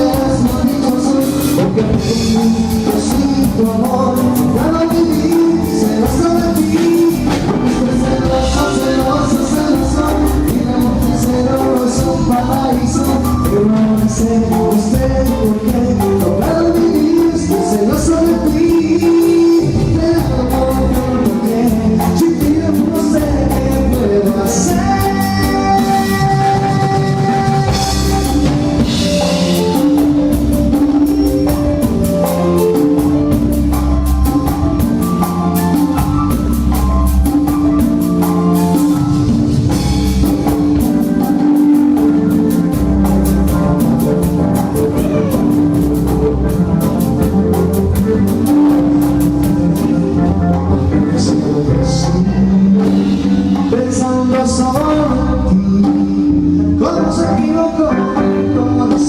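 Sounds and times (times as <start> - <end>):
drum kit beat: 0.0 - 59.0
live band playing instrumental: 0.0 - 59.0.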